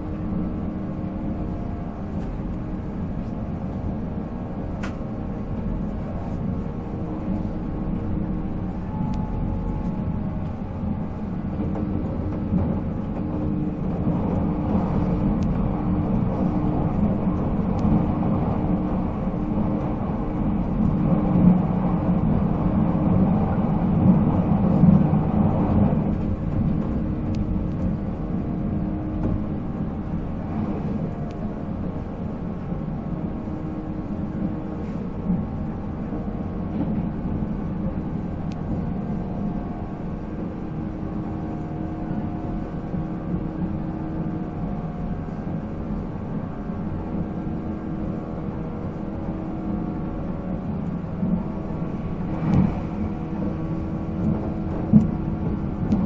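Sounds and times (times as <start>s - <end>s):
train traction motor hum: 0.0s - 56.0s
wheels rumbling on rail: 0.0s - 56.0s.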